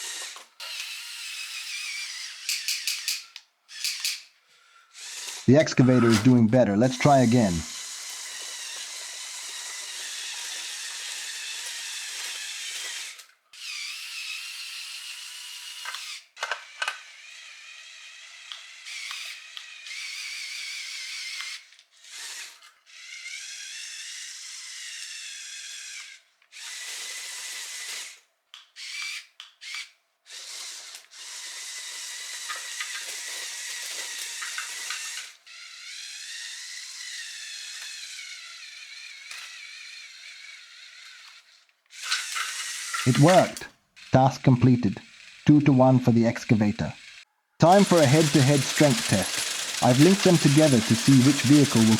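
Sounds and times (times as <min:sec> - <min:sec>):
toy excavator motors whining: 0:00.0 - 0:51.9.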